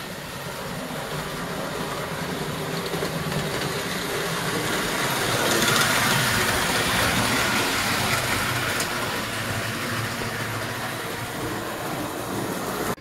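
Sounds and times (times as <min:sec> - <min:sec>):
toy train whirring on metal track: 0:00.0 - 0:13.0.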